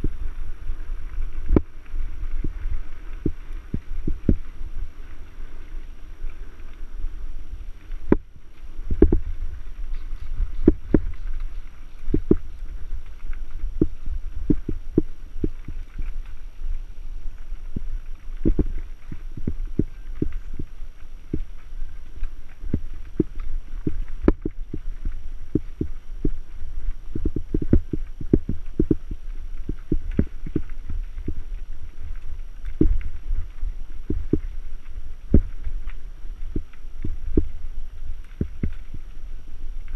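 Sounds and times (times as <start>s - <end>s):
bike rolling over rough ground: 0.0s - 39.9s
low rumble: 0.0s - 39.9s.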